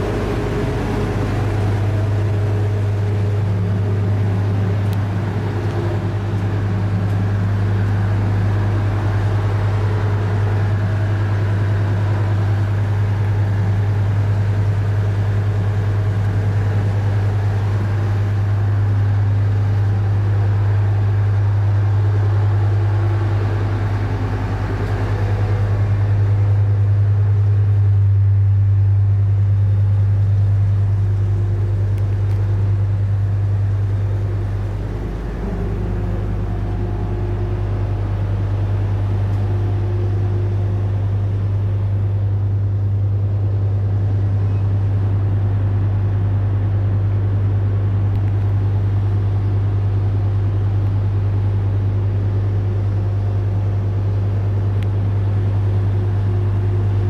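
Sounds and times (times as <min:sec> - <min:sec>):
ship diesel engines droning: 0:00.0 - 0:57.0.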